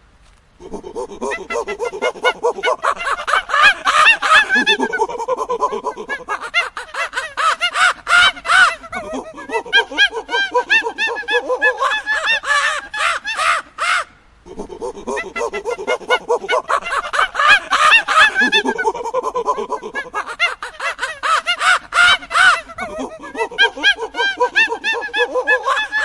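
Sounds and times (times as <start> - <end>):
monkeys calling shrilly: 0.6 - 26.0.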